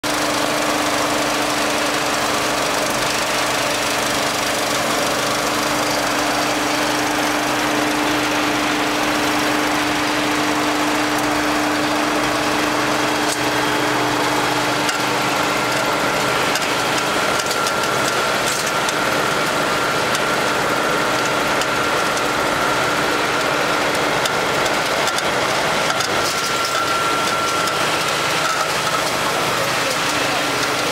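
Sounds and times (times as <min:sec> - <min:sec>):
machine noise with hum: 0:00.1 - 0:30.9
thin high machine whine: 0:00.1 - 0:30.9.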